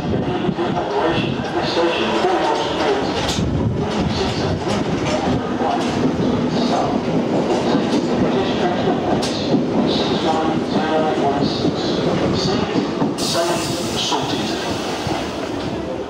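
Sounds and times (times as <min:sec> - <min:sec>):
electric train rumbling past: 0:00.0 - 0:16.0.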